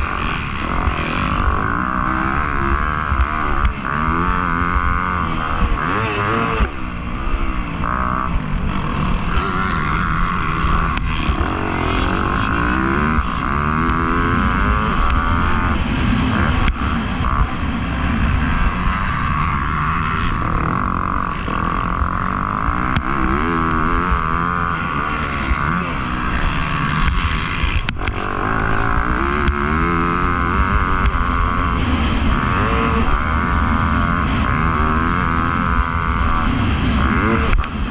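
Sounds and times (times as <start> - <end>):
motocross bike engine revving: 0.0 - 37.9.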